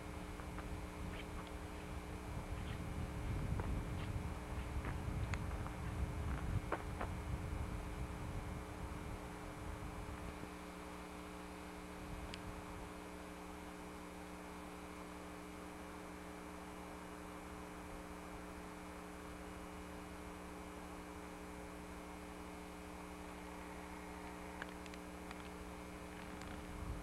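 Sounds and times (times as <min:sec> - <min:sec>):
constant hiss: 0:00.0 - 0:27.0
electrical mains hum: 0:00.0 - 0:27.0.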